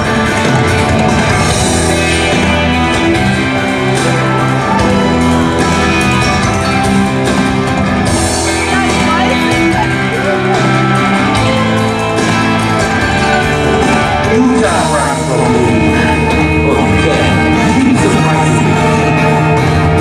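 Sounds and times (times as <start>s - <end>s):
rock guitar music: 0.0s - 20.0s.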